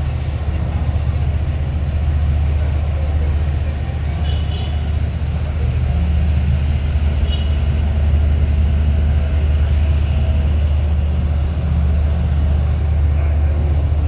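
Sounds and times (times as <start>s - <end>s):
diesel engines rumbling: 0.0s - 14.0s.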